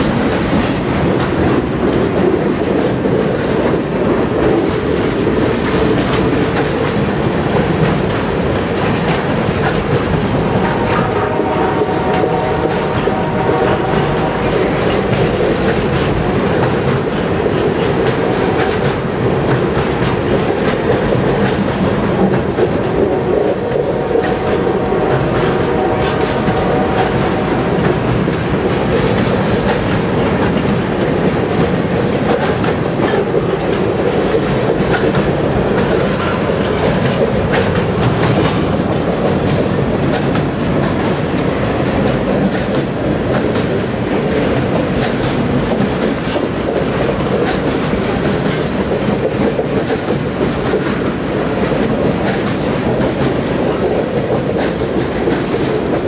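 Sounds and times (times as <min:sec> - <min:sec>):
clickety-clack over rail joints: 0:00.0 - 0:56.0
train wheels rumbling on rail: 0:00.0 - 0:56.0.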